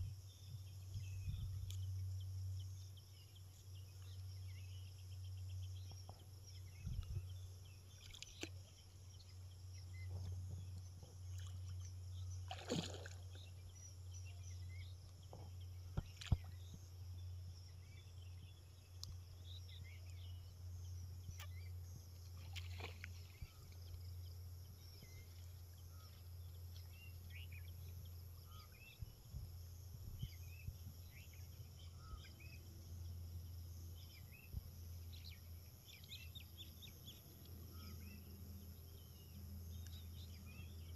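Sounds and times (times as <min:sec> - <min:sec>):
birds and insects chirping: 0:00.0 - 0:40.9
steady low hum: 0:00.0 - 0:40.9.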